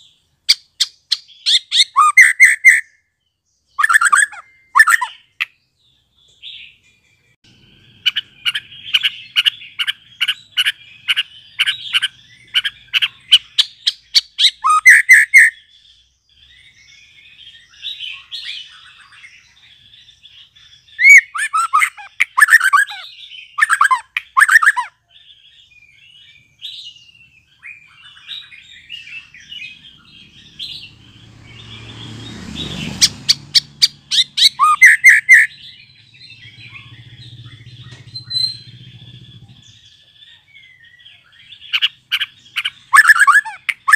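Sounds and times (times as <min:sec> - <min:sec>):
bird singing: 0:00.0 - 0:43.9
soft twittering: 0:07.5 - 0:43.9.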